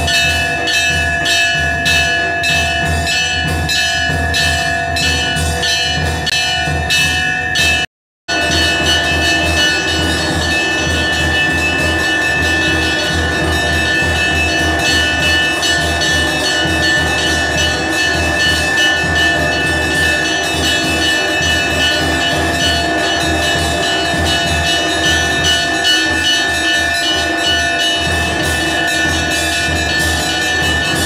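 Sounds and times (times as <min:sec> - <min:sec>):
temple bells ringing rapidly: 0:00.0 - 0:31.0.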